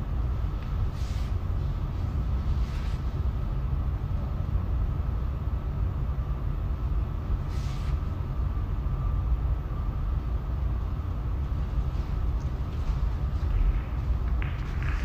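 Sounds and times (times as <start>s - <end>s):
low rumble and hum: 0.0s - 15.0s.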